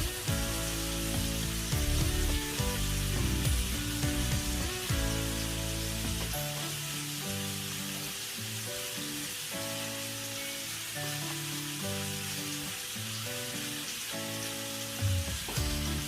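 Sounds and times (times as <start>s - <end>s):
background music of held notes: 0.0s - 16.0s
prawns sizzling in frying pan: 0.0s - 16.0s.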